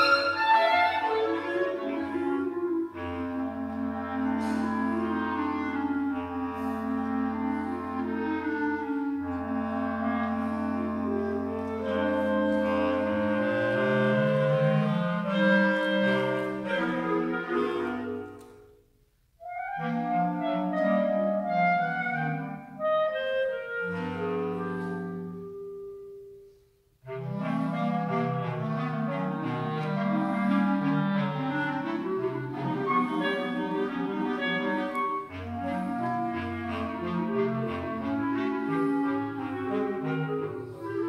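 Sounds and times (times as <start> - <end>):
clarinet ensemble playing chords: 0.0 - 41.0.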